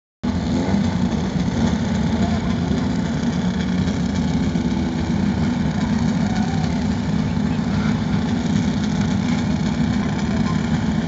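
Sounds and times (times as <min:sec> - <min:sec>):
buggy engines idling: 0:00.2 - 0:11.0.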